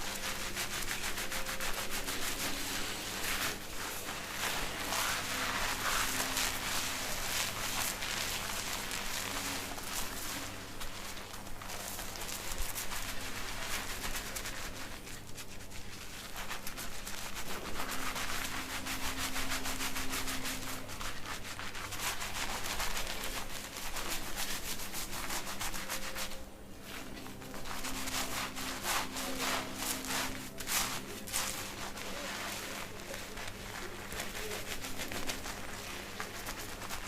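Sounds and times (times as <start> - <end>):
fingers scratching scalp: 0.0 - 37.0.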